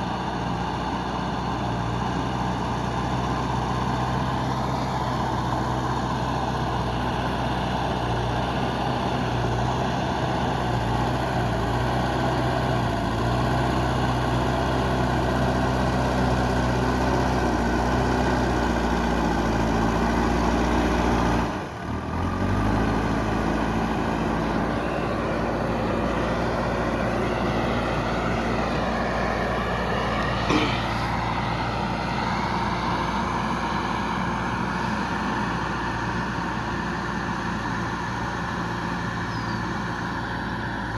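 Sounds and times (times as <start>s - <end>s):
backhoe diesel engine running: 0.0s - 40.9s.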